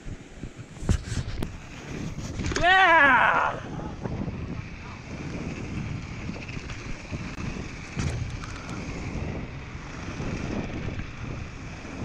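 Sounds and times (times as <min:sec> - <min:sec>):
tyres rolling on packed snow: 0:00.0 - 0:12.0
wind buffeting microphone: 0:00.0 - 0:12.0
bike clicks and rattles: 0:00.6 - 0:12.0.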